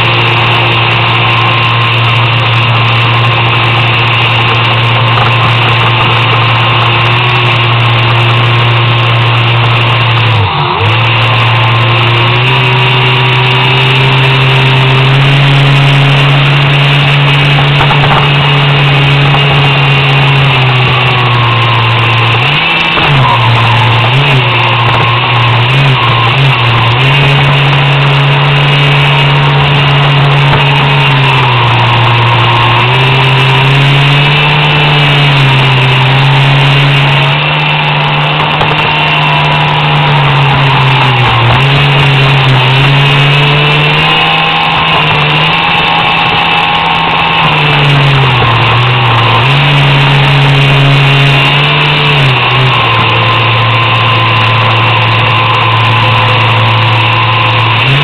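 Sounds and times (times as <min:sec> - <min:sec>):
electric motor droning whine: 0:00.0 - 0:58.0.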